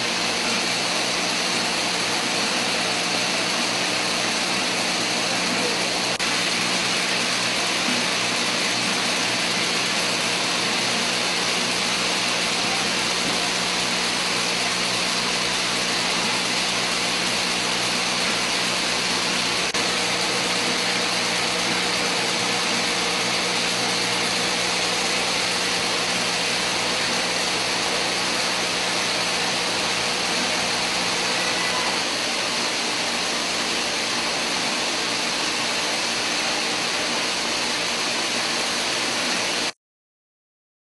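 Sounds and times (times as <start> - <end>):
machinery hissing with low hum: 0.0 - 39.7.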